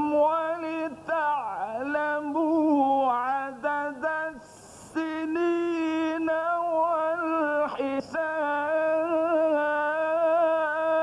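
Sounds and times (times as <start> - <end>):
man chanting verses: 0.0 - 11.0.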